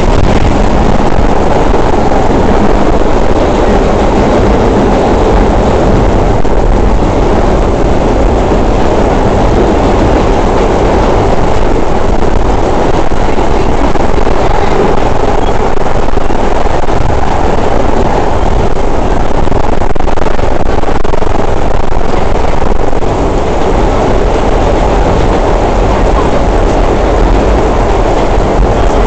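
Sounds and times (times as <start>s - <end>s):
subway train wheels rumbling on rails: 0.0s - 29.0s.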